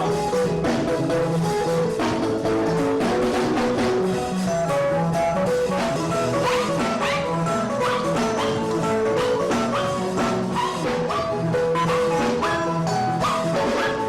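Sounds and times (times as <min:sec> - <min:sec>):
drums: 0:00.0 - 0:14.0.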